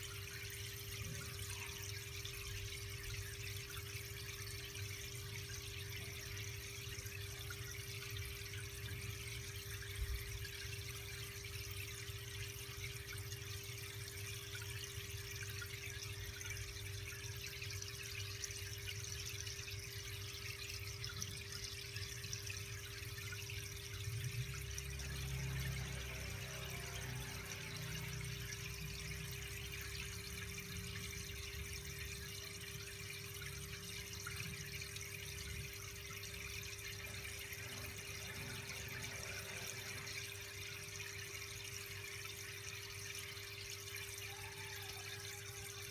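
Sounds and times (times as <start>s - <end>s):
aquarium filter hum: 0.0s - 45.9s
water trickling: 0.0s - 45.9s.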